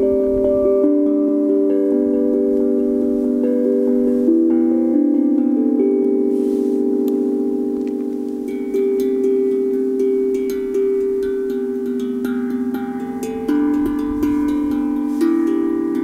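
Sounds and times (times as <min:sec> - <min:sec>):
steel tongue drum notes ringing: 0:00.0 - 0:16.0.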